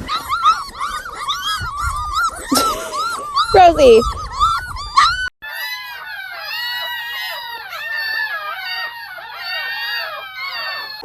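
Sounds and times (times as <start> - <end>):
puppies whining and squealing: 0.0 - 11.0.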